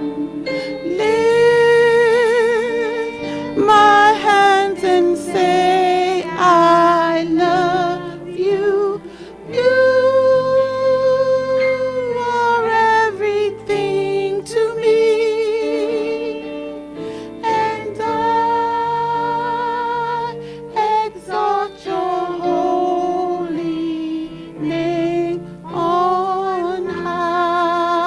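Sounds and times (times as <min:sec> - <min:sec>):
keyboard accompaniment: 0:00.0 - 0:28.0
women singing gospel: 0:00.0 - 0:28.0.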